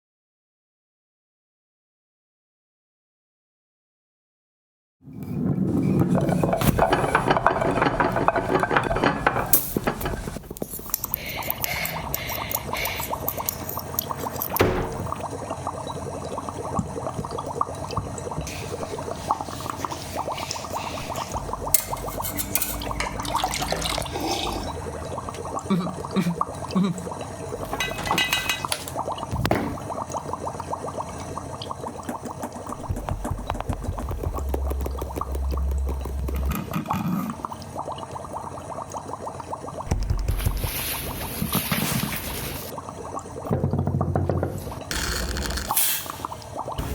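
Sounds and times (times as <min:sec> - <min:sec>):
water sloshing and pouring: 0:05.1 - 0:46.9.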